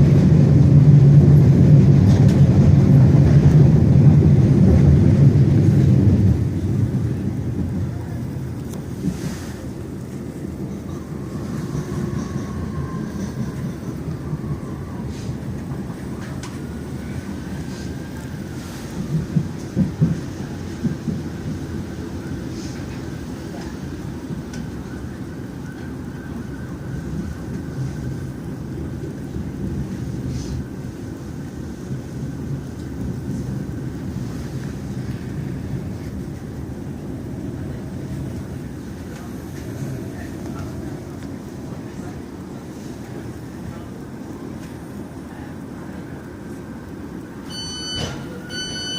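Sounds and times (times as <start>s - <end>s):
train wheels rumbling: 0.0s - 48.9s.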